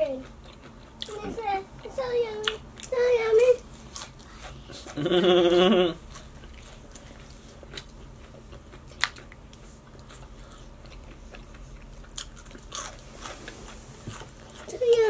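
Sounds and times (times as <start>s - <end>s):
chewing crunchy food: 0.0s - 5.1s, 6.0s - 15.0s.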